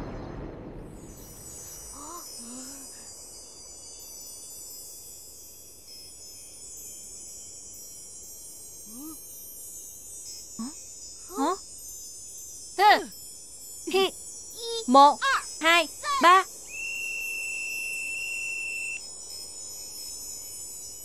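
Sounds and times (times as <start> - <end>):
shimmering chime tinkling: 0.9 - 21.0.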